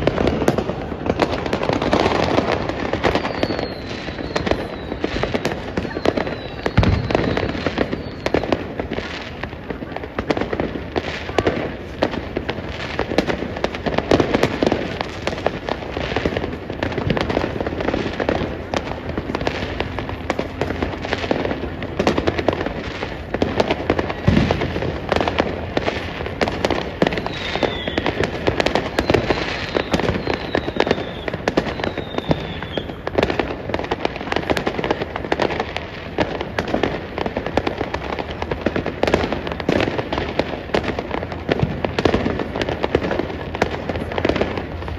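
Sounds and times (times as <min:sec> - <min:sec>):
falling firework whistles: 0:00.0 - 0:44.9
fireworks bangs and crackling: 0:00.0 - 0:44.9.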